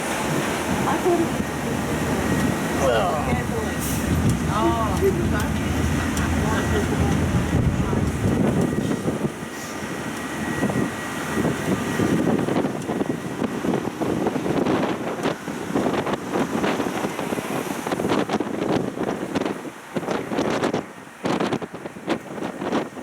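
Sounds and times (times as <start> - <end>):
tourist train running: 0.0 - 23.0
wind buffeting microphone: 0.0 - 23.0.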